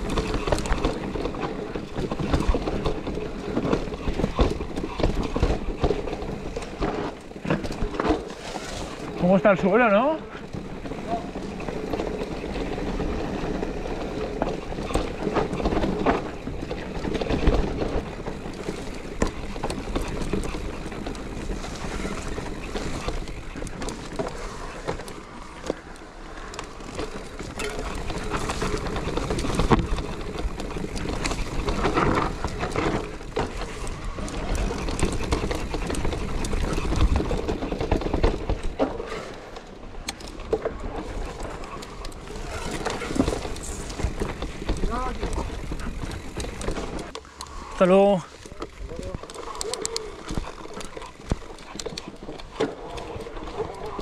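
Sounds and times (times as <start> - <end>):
bike chain and frame rattling: 0.0 - 54.0
bike tyres rolling on dirt: 0.0 - 54.0.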